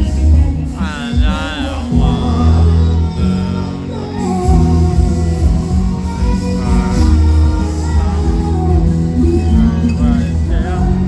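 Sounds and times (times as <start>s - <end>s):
heavy bass: 0.0s - 11.0s
person singing: 0.0s - 11.0s.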